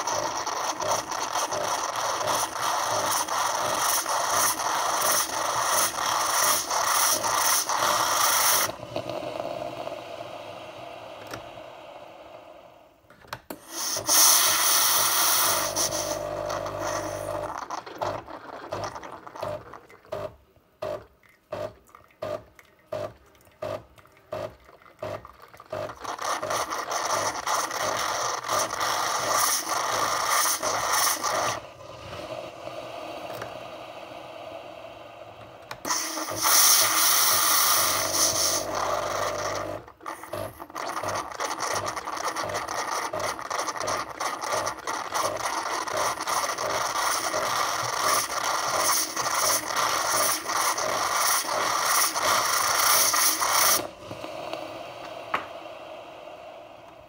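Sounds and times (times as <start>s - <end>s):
coffee machine steam hissing: 0.0s - 12.8s, 13.5s - 19.6s, 25.8s - 57.0s.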